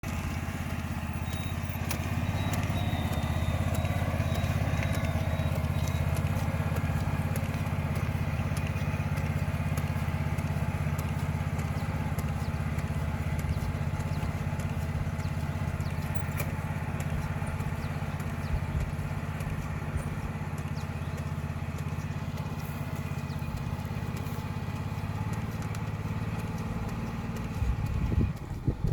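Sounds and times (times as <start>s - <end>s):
faint machine ticking: 0.0s - 28.9s
small engine running: 0.0s - 28.9s.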